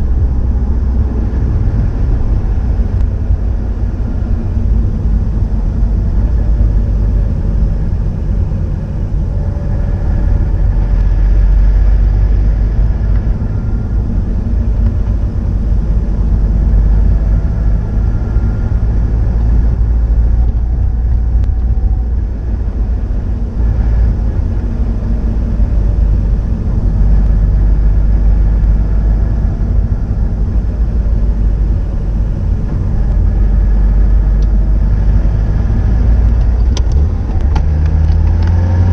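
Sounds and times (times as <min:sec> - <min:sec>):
deep car exhaust rumble: 0:00.0 - 0:38.9.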